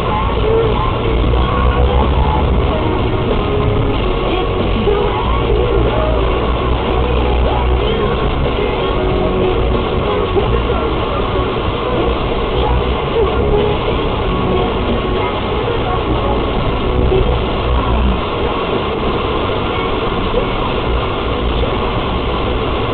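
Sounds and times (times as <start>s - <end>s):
rock music with singing: 0.0s - 22.9s
steady low rumbling noise: 0.0s - 22.9s.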